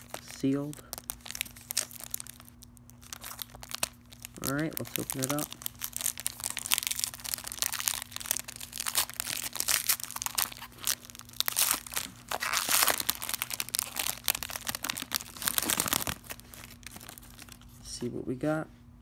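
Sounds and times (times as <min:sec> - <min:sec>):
wrapper tearing and crinkling: 0:00.0 - 0:17.8.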